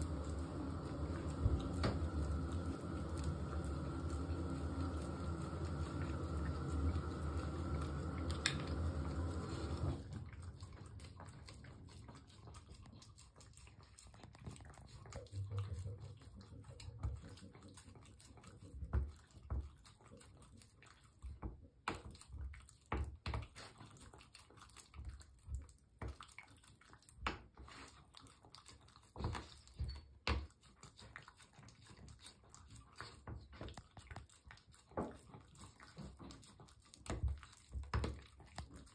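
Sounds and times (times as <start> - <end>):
dog licking: 0.0 - 38.9.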